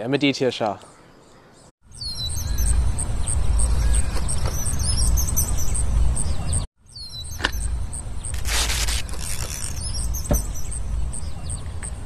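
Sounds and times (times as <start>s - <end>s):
bird chirps: 0.7s - 8.5s, 9.2s - 12.0s.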